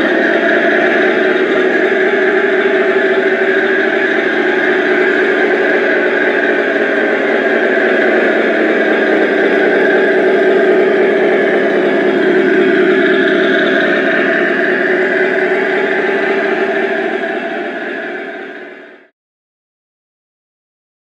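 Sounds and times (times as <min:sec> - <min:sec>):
toy tank motor drone: 0:00.0 - 0:18.7.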